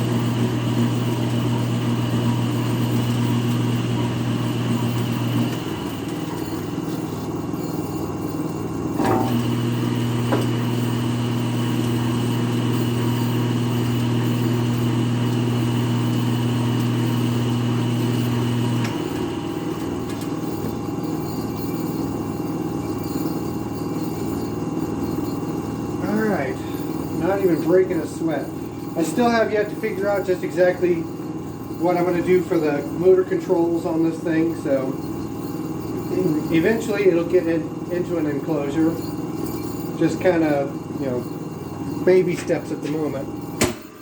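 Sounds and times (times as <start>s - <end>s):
electric motor hum: 0.0s - 44.0s
planer running noise: 0.0s - 44.0s.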